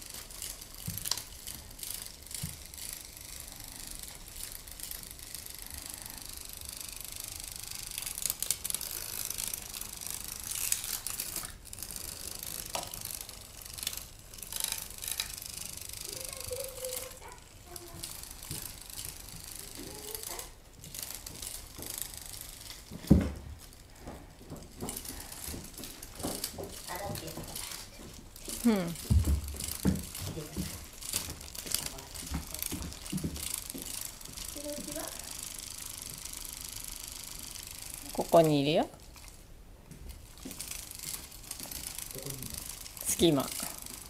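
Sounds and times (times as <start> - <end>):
cat toy motor whirring and clicking: 0.0 - 44.0.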